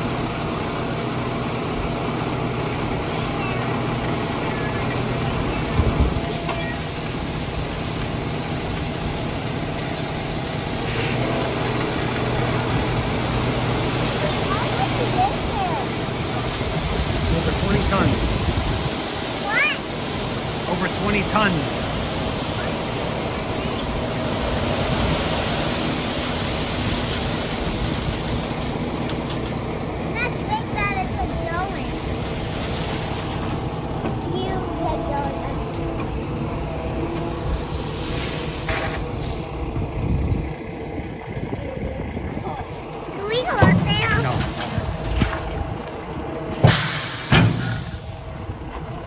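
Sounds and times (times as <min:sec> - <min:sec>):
dump truck diesel engine: 0:00.0 - 0:49.0.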